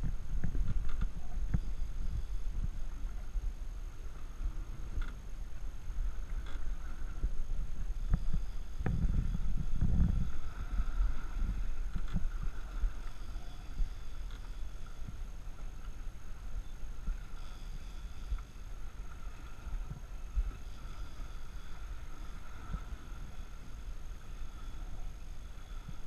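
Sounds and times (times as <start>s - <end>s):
boat engine rumble: 0.0s - 26.0s
faint steady whine: 0.0s - 26.0s
wind buffeting microphone: 0.0s - 26.0s.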